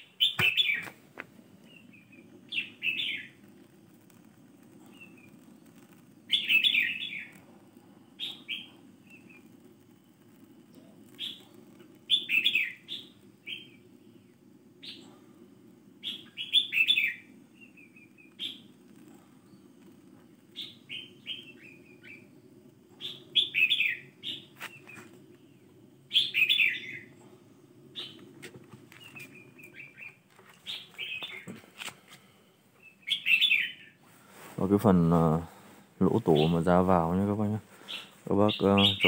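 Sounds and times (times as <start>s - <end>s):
birds chirping: 0.0s - 1.0s, 1.6s - 3.4s, 4.8s - 7.4s, 8.0s - 9.4s, 10.8s - 15.2s, 16.0s - 19.8s, 20.5s - 34.0s, 34.6s - 39.0s
gas torch rushing: 0.2s - 32.7s.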